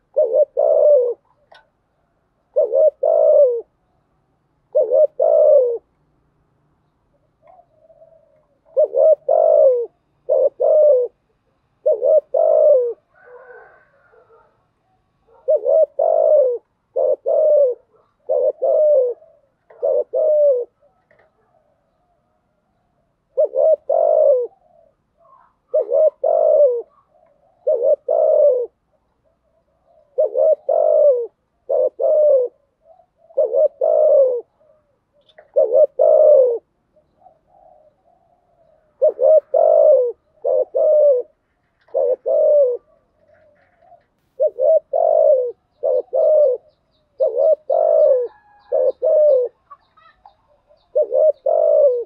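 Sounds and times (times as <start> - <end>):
dove cooing: 0.0 - 1.7, 2.4 - 3.8, 4.6 - 6.0, 7.1 - 52.0.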